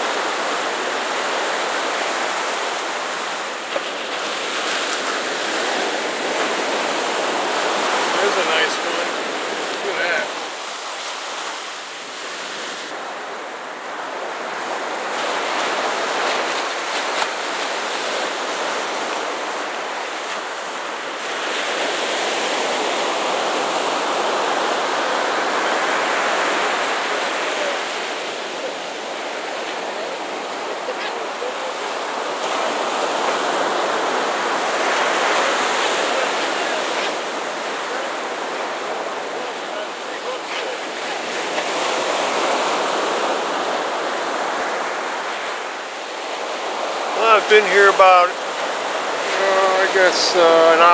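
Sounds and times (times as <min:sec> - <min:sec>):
ocean surf breaking: 0:00.0 - 0:50.9.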